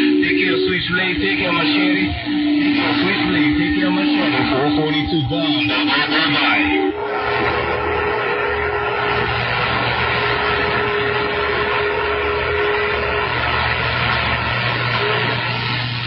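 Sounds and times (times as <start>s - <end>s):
low hum: 0.0s - 16.0s
radio static hiss: 0.0s - 16.0s
steady whistle tone: 0.0s - 16.0s.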